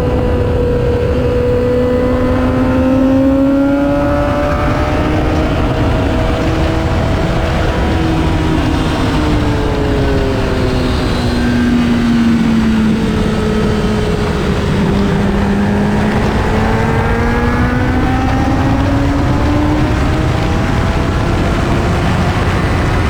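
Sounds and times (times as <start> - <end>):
motorcycle engine at speed: 0.0 - 23.0
wind noise rushing: 0.0 - 23.0.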